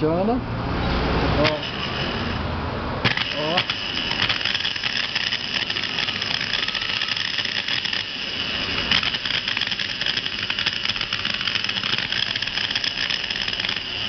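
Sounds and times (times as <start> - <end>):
electric drill motor whirring: 1.4 - 14.0.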